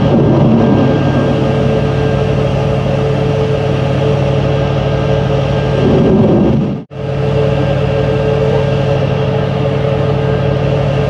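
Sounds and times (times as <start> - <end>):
noisy rush: 0.0 - 11.0
ship engines droning: 0.0 - 11.0.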